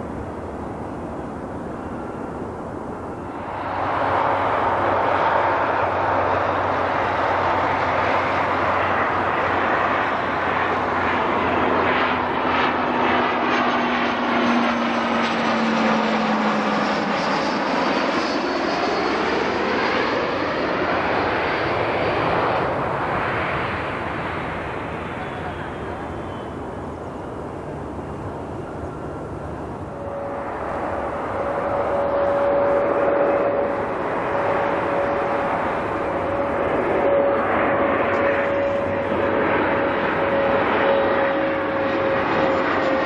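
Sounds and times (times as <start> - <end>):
high jet whine: 0.0 - 43.0
jet engine noise: 0.0 - 43.0.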